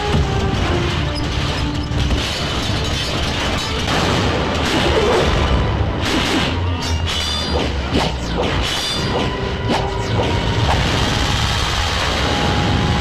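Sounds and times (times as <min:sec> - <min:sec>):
action film music: 0:00.0 - 0:13.0.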